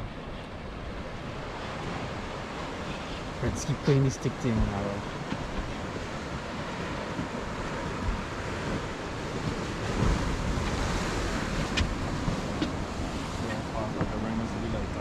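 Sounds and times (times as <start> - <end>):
sea water wash: 0.0 - 15.0
wind buffeting microphone: 0.0 - 15.0.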